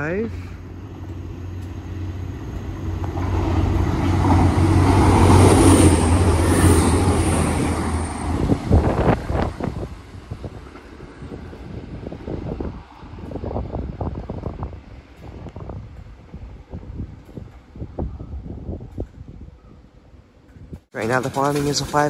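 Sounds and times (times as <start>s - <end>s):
train passing: 0.0s - 18.8s, 20.2s - 22.0s
wind buffeting microphone: 0.0s - 22.0s.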